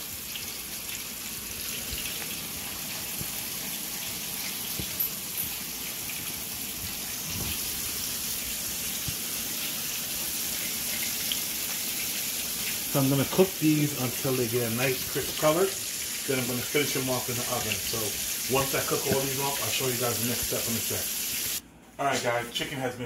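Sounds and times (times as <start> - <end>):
chicken sizzling in hot oil: 0.0 - 21.6.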